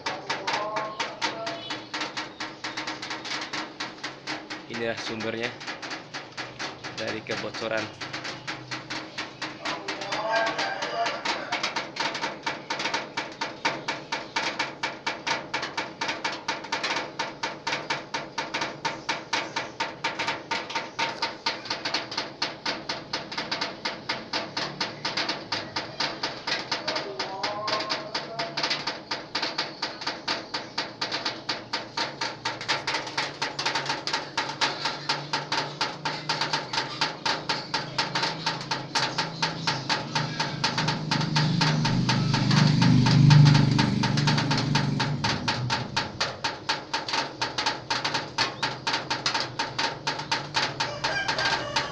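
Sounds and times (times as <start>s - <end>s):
water dripping on metal sheet: 0.0s - 51.9s.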